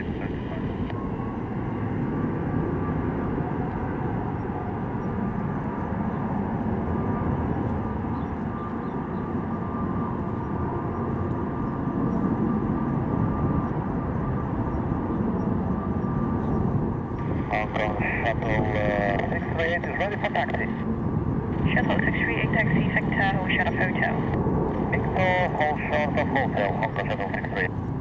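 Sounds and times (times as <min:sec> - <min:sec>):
faint high engine whine: 0:00.0 - 0:28.0
jet engines at takeoff: 0:00.0 - 0:28.0.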